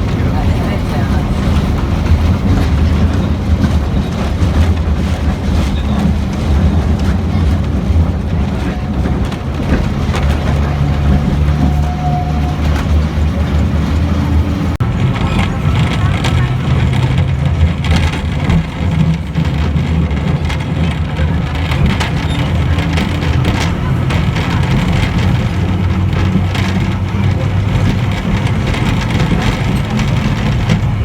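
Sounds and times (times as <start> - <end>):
diesel engine hum: 0.0 - 31.0
higher engine hum: 0.0 - 31.0
train rumbling: 0.0 - 31.0.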